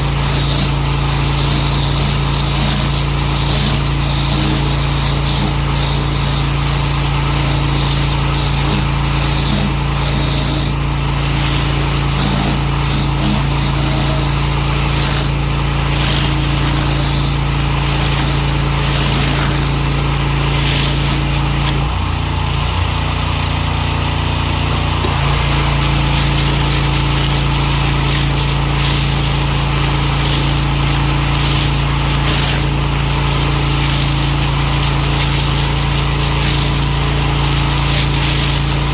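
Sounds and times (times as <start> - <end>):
water jet hissing: 0.0 - 22.0, 24.6 - 38.9
pressure washer motor running: 0.0 - 38.9.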